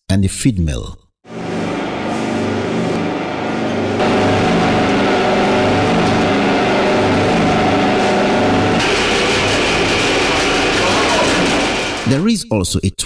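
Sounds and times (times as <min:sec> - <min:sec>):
feed mill machinery drone: 0:01.3 - 0:12.2.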